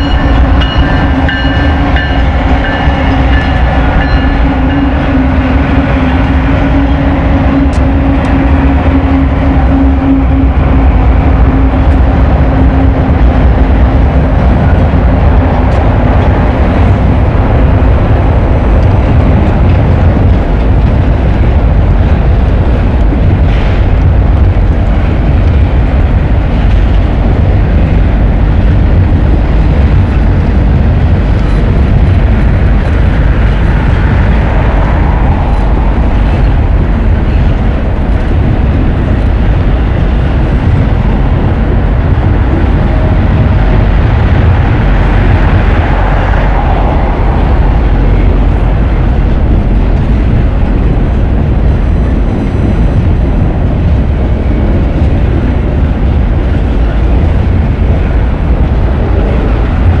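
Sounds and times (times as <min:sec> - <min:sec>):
freight train wheels rumbling on rail: 0:00.0 - 1:00.0.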